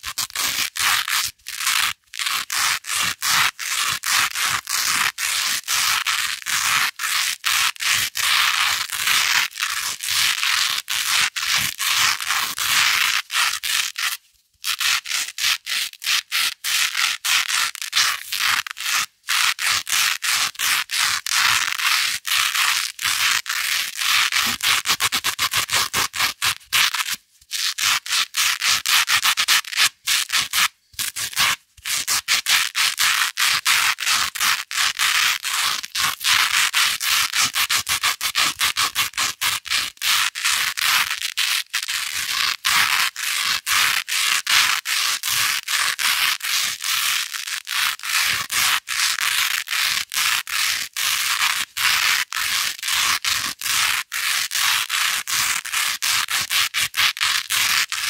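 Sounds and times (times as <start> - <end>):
velcro tape scratching: 0.0 - 58.0.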